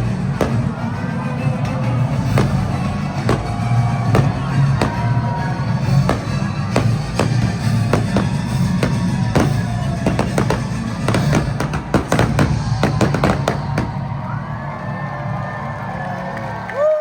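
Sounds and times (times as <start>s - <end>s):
fireworks bangs: 0.0s - 1.2s, 1.8s - 14.4s
loud show music: 0.0s - 14.2s.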